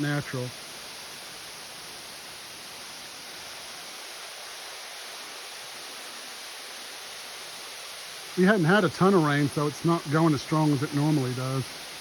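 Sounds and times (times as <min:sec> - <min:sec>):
small waterfall splashing into pool: 0:00.0 - 0:12.0.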